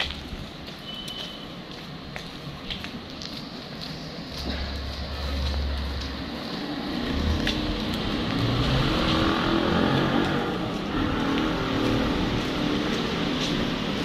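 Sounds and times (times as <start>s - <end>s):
street noise: 0.0s - 14.0s.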